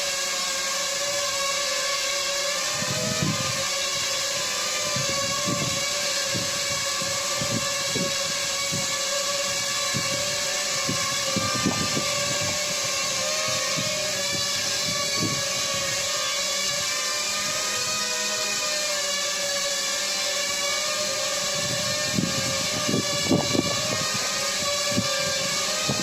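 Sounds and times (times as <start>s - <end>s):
drone propellers whirring: 0.0s - 26.0s
low wind buffeting: 2.6s - 18.0s, 20.6s - 26.0s.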